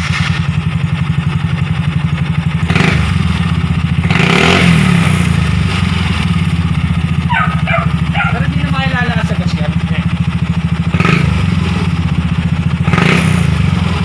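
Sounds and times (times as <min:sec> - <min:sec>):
engine throttle blips: 0:00.0 - 0:14.0
motorcycle engine idling: 0:00.0 - 0:14.0.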